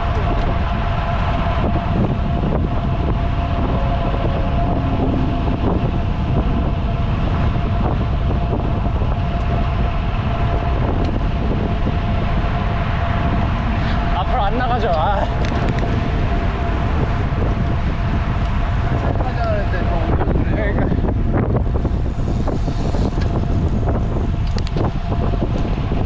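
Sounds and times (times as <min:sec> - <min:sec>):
bicycle road noise: 0:00.0 - 0:26.0
wind on microphone: 0:00.0 - 0:26.0.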